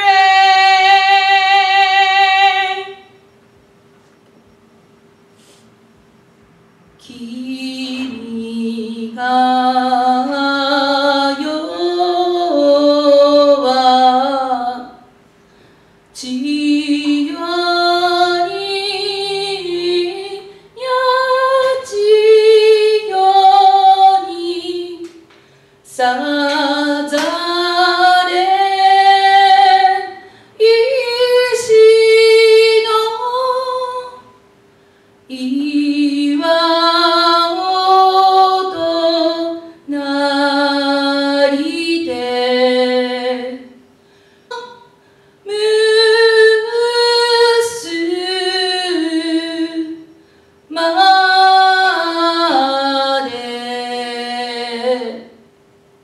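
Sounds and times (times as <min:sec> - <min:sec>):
woman singing unaccompanied: 0:00.0 - 0:03.2, 0:07.0 - 0:15.1, 0:16.2 - 0:34.4, 0:35.3 - 0:43.8, 0:44.5 - 0:55.4.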